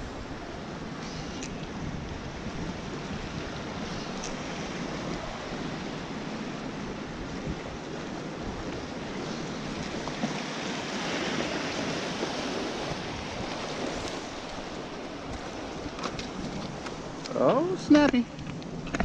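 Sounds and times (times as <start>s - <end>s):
waves washing against rocks: 0.0s - 19.0s.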